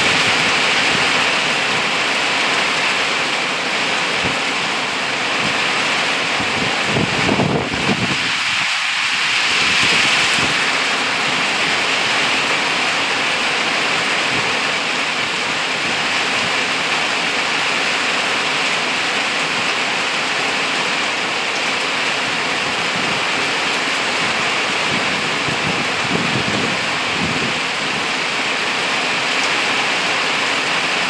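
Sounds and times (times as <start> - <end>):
rain on leafy shrubs: 0.0 - 31.0.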